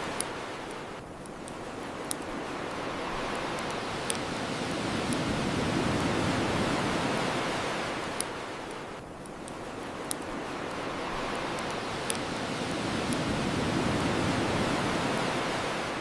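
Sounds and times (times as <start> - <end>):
bonfire crackling pops: 0.0 - 15.2
ocean waves washing onto shore: 0.0 - 16.0.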